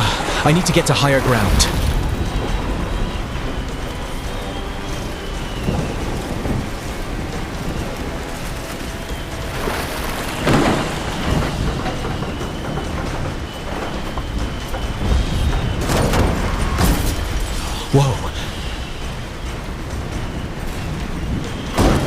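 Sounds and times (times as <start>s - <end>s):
heavy rain: 0.0s - 22.0s
thunder rumbling: 0.0s - 22.0s.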